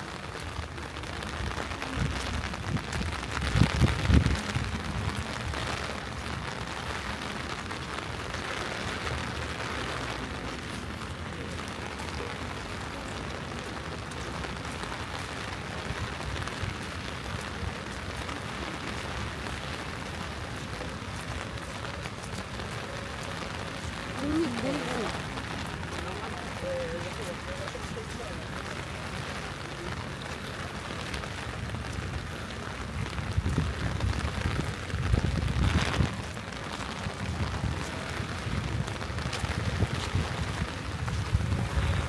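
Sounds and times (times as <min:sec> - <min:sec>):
steady rain: 0:00.0 - 0:42.0.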